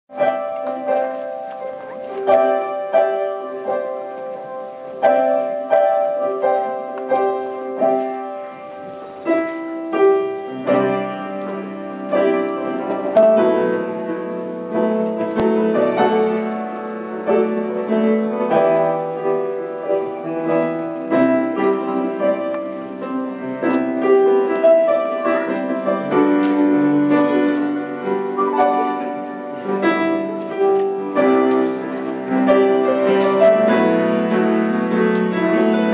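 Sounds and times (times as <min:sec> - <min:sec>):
slow piano piece: 0:00.1 - 0:35.9.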